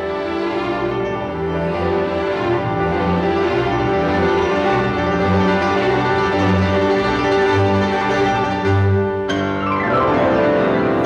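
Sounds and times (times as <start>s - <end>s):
orchestra sustained chords: 0.0s - 11.0s.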